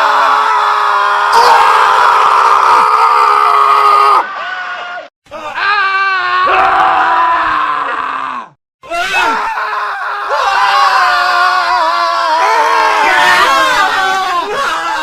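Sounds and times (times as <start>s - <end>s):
men screaming: 0.0s - 15.0s.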